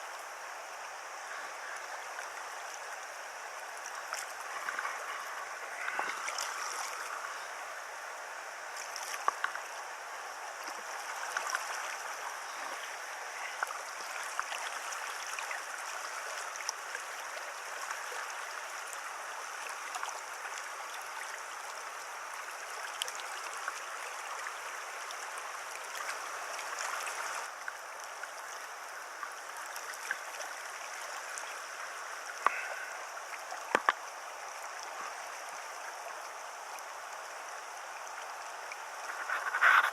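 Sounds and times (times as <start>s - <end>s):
stream water rushing over stones: 0.0s - 39.9s.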